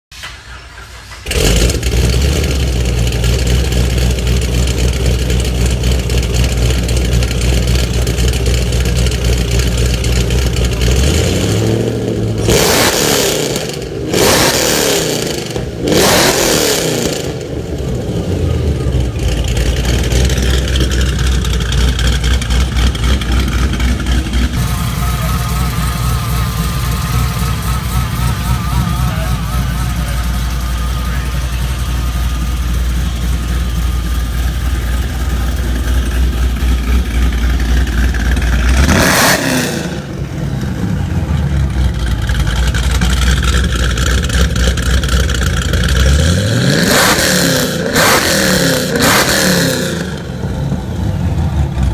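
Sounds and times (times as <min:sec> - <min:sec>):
car engine idling: 0:00.1 - 0:51.9
car engine revving: 0:00.7 - 0:51.9.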